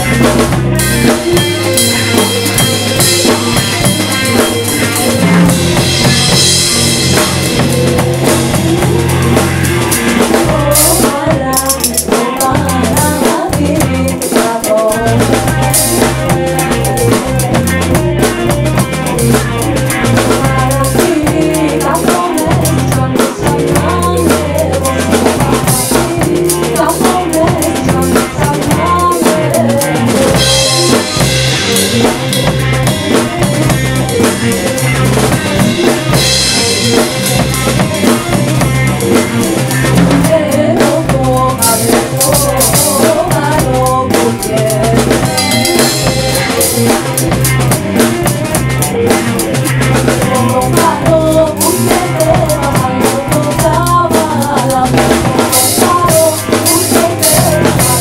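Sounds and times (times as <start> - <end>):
drum kit: 0.0 - 58.0
jazz band playing: 0.0 - 58.0.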